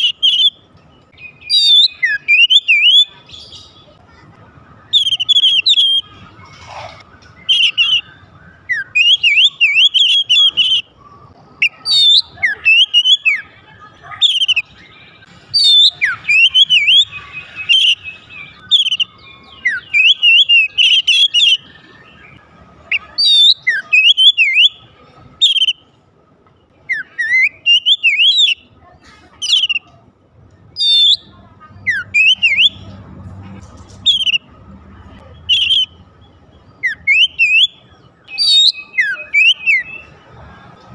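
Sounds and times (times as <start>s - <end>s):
magpie-robin singing whistled phrases: 0.0s - 4.0s, 4.8s - 6.3s, 7.2s - 25.9s, 26.8s - 28.7s, 29.4s - 29.9s, 30.8s - 33.0s, 34.0s - 34.5s, 35.3s - 40.2s.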